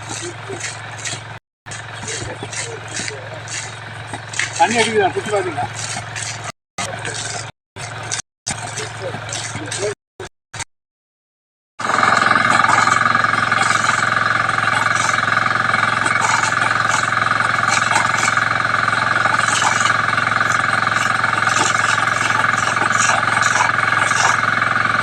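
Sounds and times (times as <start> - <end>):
air compressor engine running: 0.0 - 10.0, 11.8 - 25.0.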